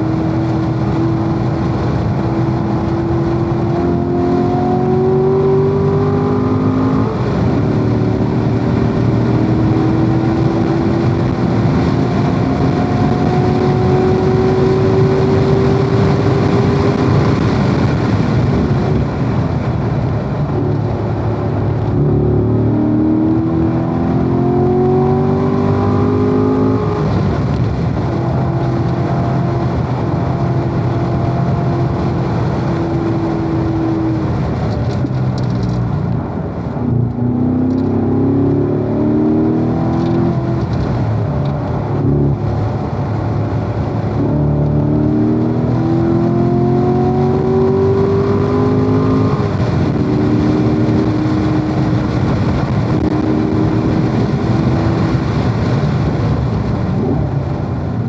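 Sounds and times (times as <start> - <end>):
car engine at speed: 0.0 - 58.0
wind and tyre noise: 0.0 - 58.0.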